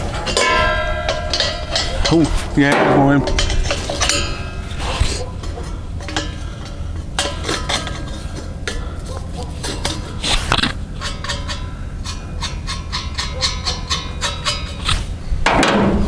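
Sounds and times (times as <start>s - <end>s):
steady low rumble: 0.0s - 13.3s
metal clinking and scraping: 0.0s - 15.1s.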